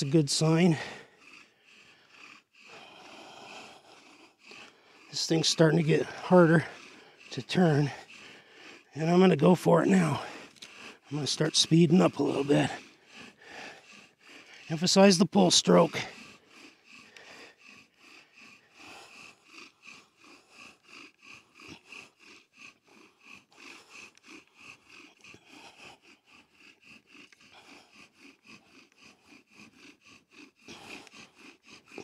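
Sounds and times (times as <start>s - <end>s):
bow drill squeaking rasp: 0.0s - 32.0s.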